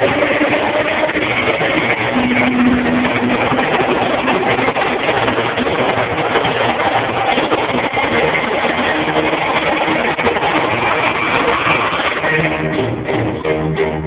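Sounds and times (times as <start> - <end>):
loud live band playing: 0.0 - 14.0.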